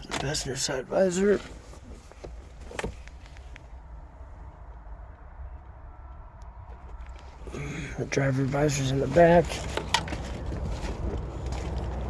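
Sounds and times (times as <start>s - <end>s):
low steady rumble: 0.5s - 12.0s.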